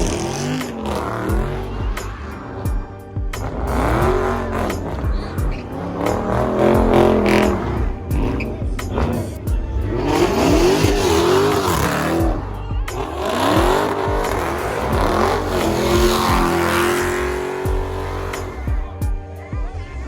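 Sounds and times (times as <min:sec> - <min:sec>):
car engine revving: 0:00.0 - 0:19.2
bass-heavy music: 0:00.0 - 0:20.0.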